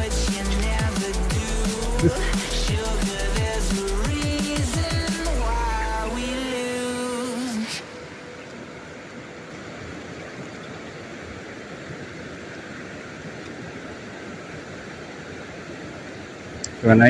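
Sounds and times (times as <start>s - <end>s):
fast-flowing river rushing: 0.0s - 17.0s.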